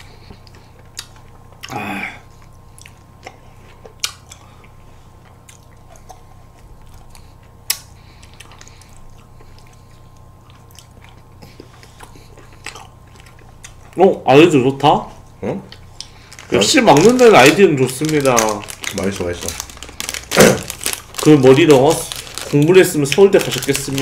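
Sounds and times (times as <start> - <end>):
person chewing ice cream: 0.0 - 14.2, 15.2 - 24.0.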